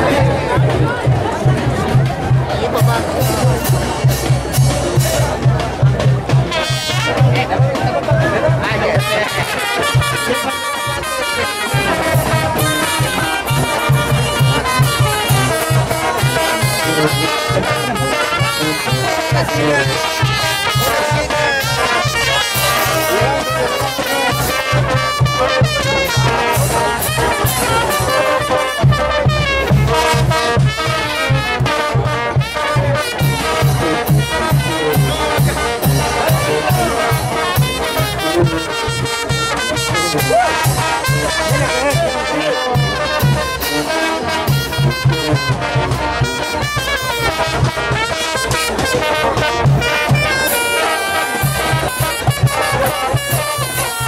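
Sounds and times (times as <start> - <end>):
brass band playing: 0.0 - 54.0.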